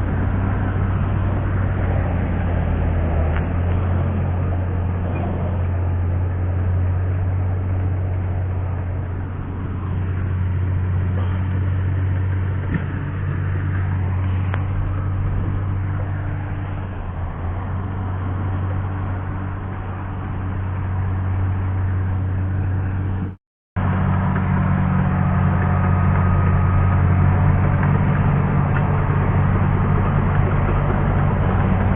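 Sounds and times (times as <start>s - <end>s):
bulldozer diesel engine droning: 0.0s - 31.9s.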